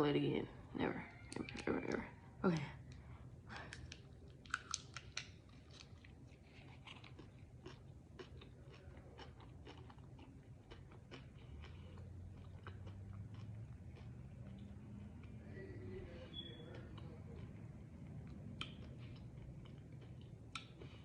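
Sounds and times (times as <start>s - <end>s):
faint chewing crunches: 1.1s - 21.0s.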